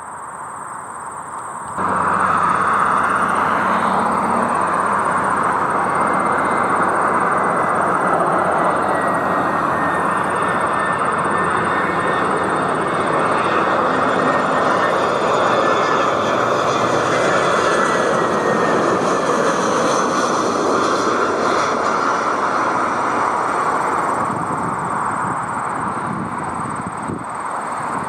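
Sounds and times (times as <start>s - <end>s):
jet engine roar with whine: 0.0s - 28.0s.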